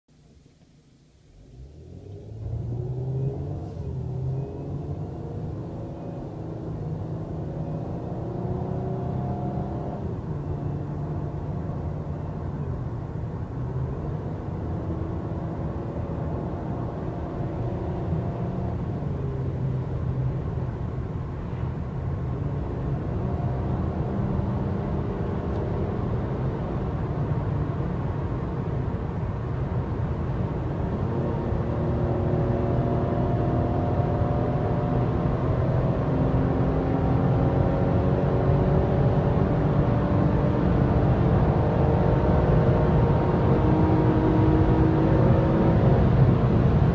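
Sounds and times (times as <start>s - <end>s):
car engine accelerating: 1.3s - 46.9s.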